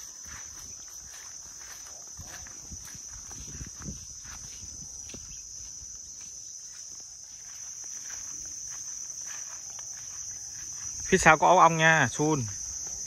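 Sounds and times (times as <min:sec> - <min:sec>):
footsteps through grass: 0:00.0 - 0:13.0
high-pitched insect drone: 0:00.0 - 0:13.0.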